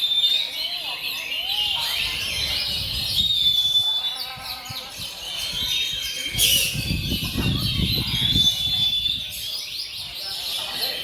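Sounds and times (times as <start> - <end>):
magpie-robins singing: 0.0 - 11.0.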